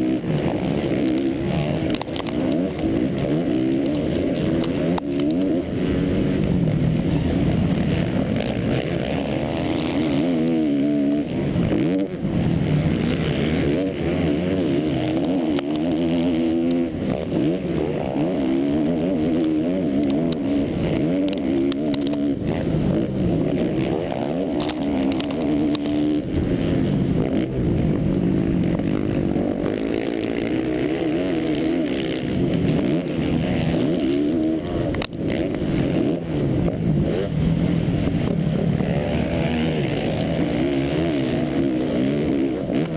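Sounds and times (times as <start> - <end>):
dirt noise: 0.0 - 42.9
motocross bike engine revving: 0.0 - 42.9.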